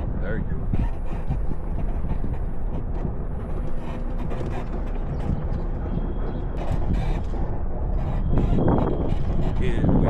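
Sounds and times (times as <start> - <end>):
knocks and rattles: 0.0 - 10.0
truck engine rumbling: 0.0 - 10.0.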